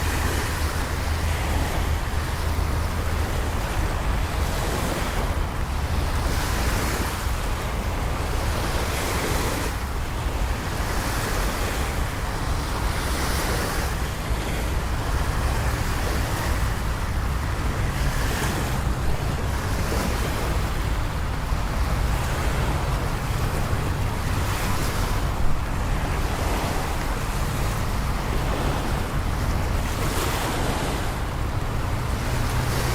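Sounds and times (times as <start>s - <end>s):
low city rumble: 0.0s - 32.9s.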